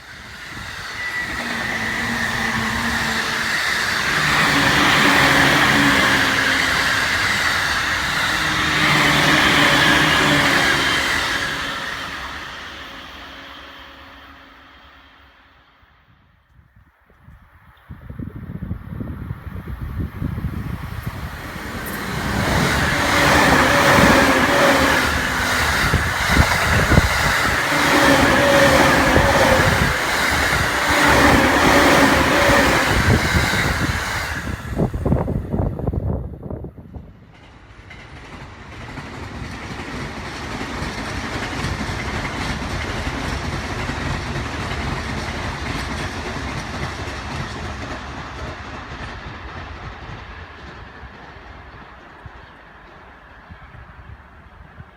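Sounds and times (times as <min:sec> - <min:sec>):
electric train passing: 0:00.0 - 0:54.9.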